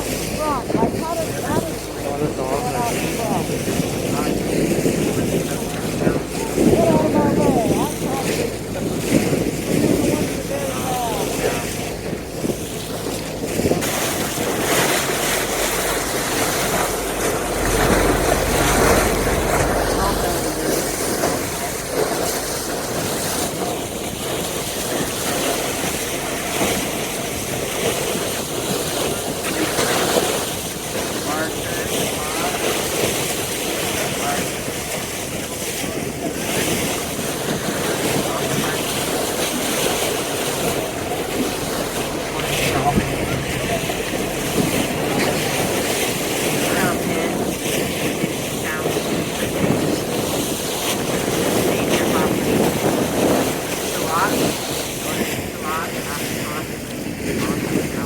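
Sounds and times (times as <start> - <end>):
sea water rushing around boat: 0.0 - 58.0
wind buffeting microphone: 0.0 - 58.0.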